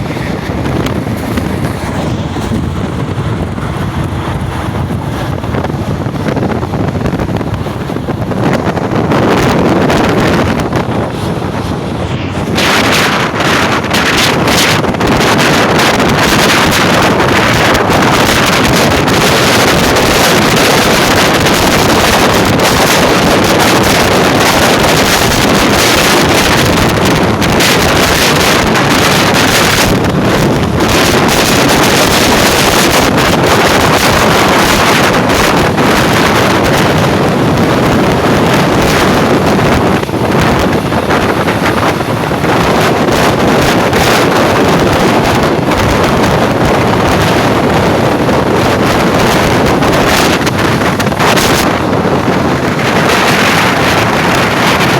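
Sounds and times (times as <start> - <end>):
train rumbling on track: 0.0 - 54.9
wind buffeting microphone: 0.0 - 54.9.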